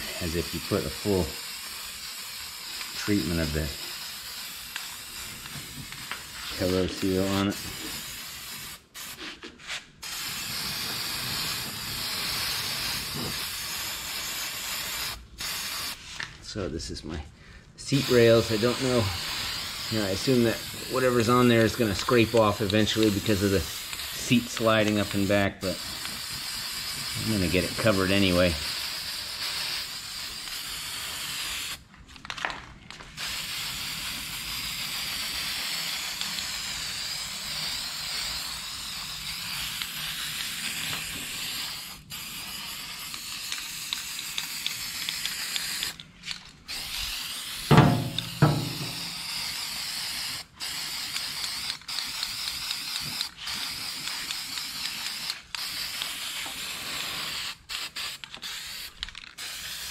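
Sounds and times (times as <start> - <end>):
aerosol can spraying hiss: 0.0 - 16.2, 17.9 - 31.8, 33.2 - 46.0, 46.7 - 59.9.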